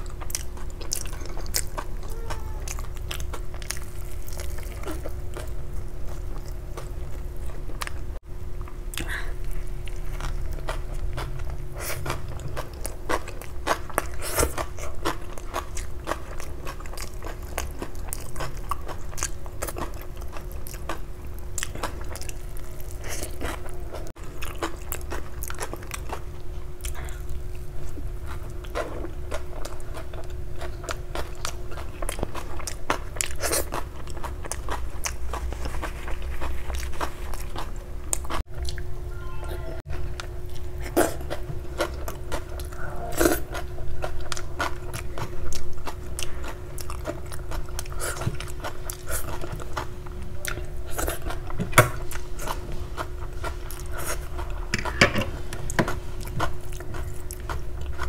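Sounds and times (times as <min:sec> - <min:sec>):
chewing bread with crunches: 0:00.0 - 0:38.9, 0:39.8 - 0:58.0
faint steady hum: 0:00.0 - 0:58.0.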